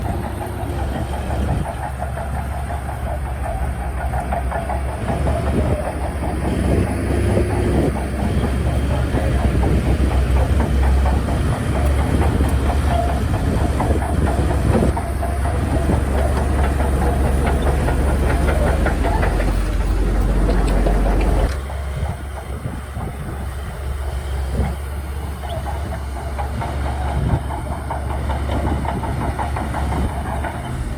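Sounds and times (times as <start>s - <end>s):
bulldozer diesel engine rumbling: 0.0s - 30.9s
steel tracks clanking: 0.0s - 30.9s.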